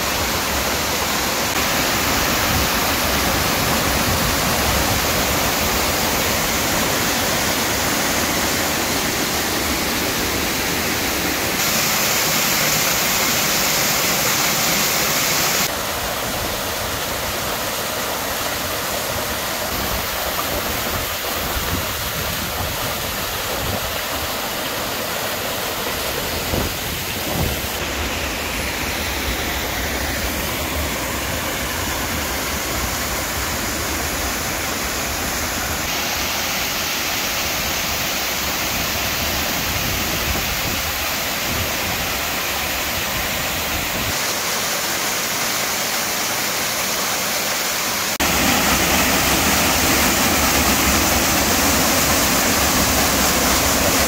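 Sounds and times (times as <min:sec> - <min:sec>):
waterfall rushing over boulders: 0:00.0 - 0:54.0.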